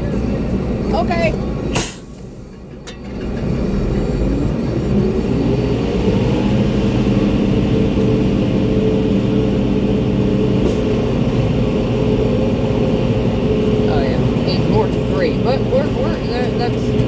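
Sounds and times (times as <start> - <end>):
diesel truck engine from cab: 0.0 - 17.0.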